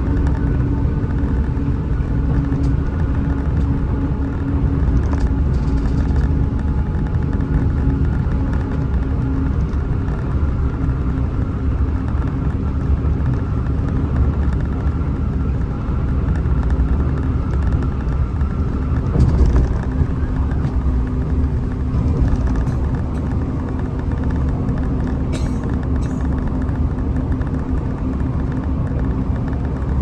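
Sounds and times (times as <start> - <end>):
bus diesel engine drone: 0.0 - 30.0
road rumble: 0.0 - 30.0.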